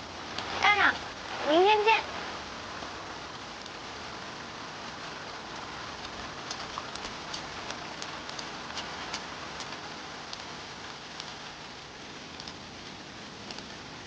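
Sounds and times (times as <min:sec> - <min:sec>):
raindrops ticking sharply: 0:00.0 - 0:14.0
steady rain falling: 0:00.0 - 0:14.0.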